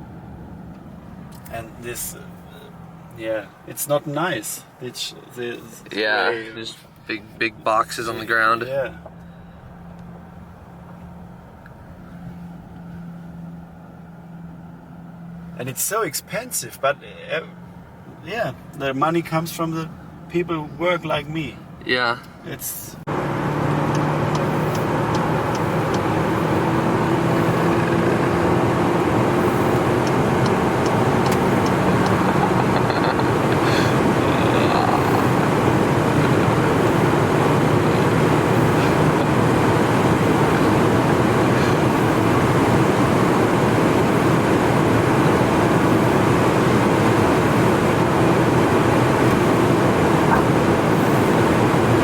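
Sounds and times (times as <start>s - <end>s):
low engine hum: 0.0s - 52.0s.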